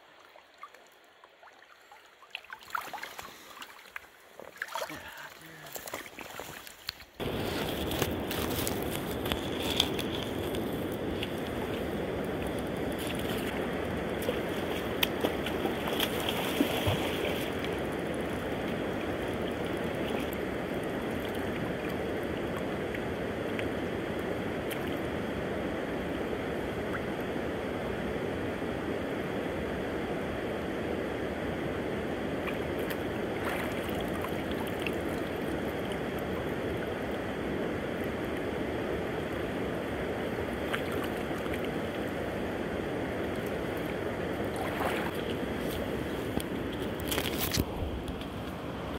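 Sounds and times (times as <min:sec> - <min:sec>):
river water flowing: 0:00.0 - 0:48.9.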